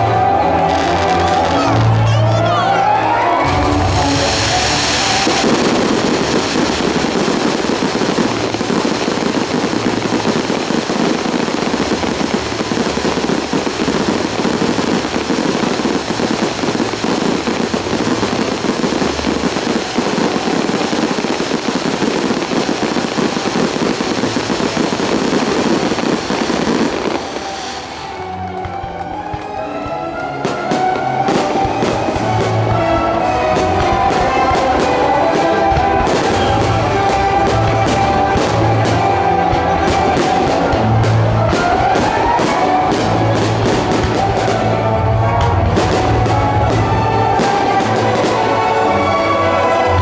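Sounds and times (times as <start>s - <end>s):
firework barrage crackling: 2.8s - 50.0s.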